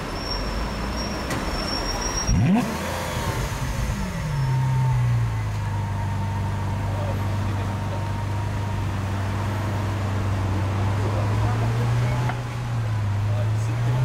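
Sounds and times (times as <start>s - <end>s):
car engine idling: 2.4s - 14.0s.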